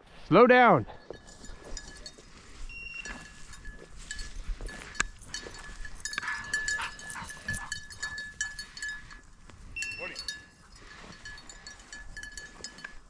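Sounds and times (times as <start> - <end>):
small bell jingling: 0.9 - 13.0.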